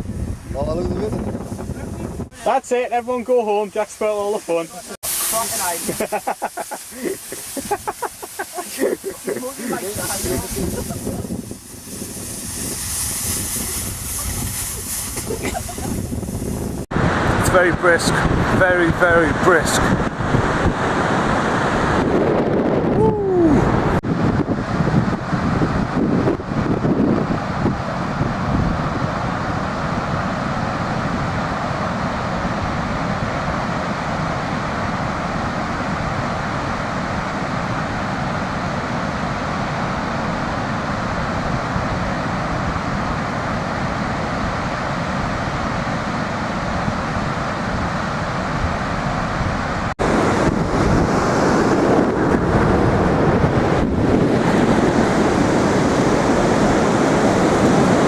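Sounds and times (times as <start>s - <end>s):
wind buffeting microphone: 0.0s - 2.6s, 7.1s - 58.0s
sea surf washing on beach: 0.0s - 58.0s.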